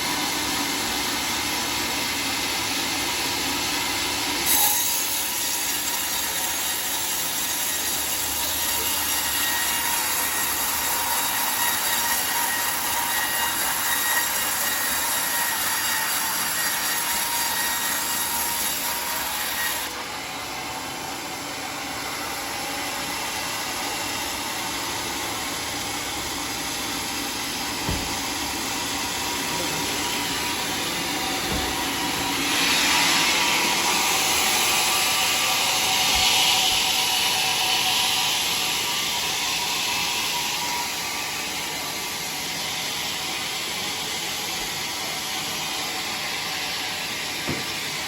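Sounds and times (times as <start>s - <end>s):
circular sawmill cutting log: 0.0s - 48.0s.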